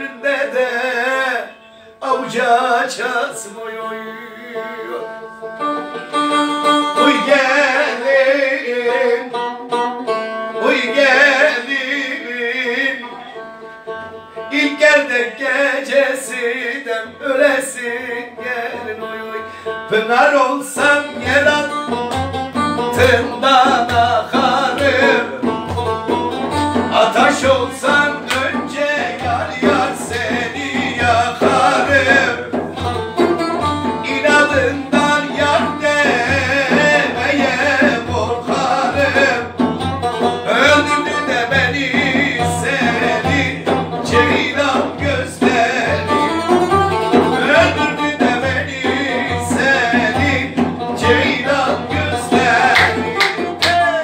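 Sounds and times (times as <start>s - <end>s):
man singing: 0.0s - 5.2s, 6.4s - 9.8s, 10.5s - 13.4s, 14.4s - 54.0s
plucked lute: 4.2s - 54.0s.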